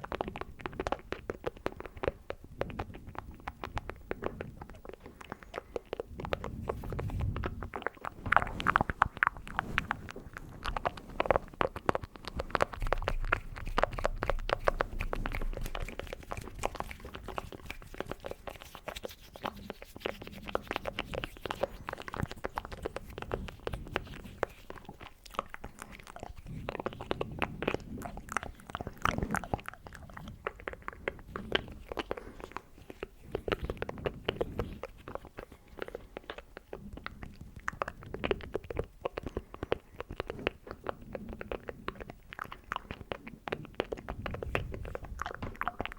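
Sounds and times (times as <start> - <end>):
wet mouth clicks and smacks: 0.0 - 45.9.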